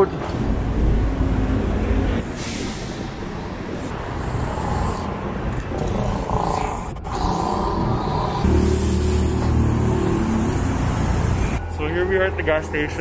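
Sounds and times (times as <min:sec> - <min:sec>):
passing motor vehicles rumble: 0:00.0 - 0:13.0.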